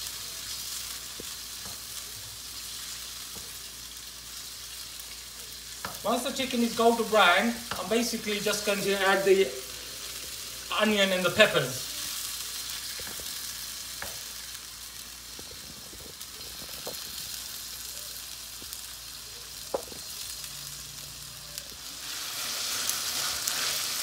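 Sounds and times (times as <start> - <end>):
chicken sizzling in a wok: 0.0 - 24.0.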